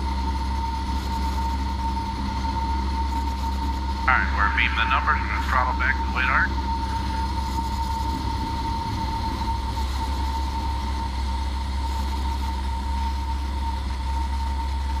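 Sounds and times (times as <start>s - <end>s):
high-pitched electrical whine: 0.0s - 15.0s
propeller plane engine droning: 0.0s - 15.0s.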